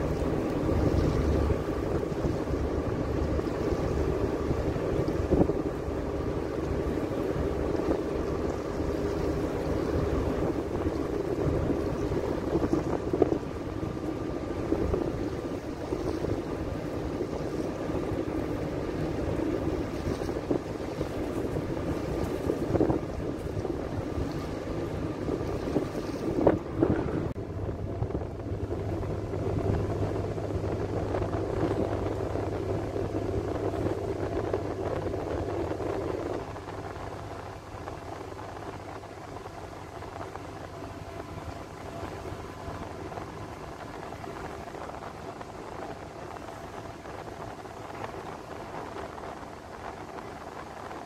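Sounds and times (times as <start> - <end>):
ship engine humming: 0.0 - 51.0
wind on microphone: 0.0 - 51.0.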